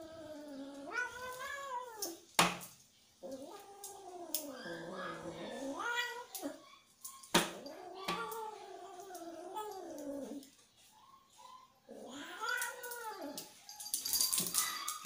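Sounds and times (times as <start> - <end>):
cat yowling: 0.0 - 2.2, 3.2 - 10.4, 11.9 - 15.0.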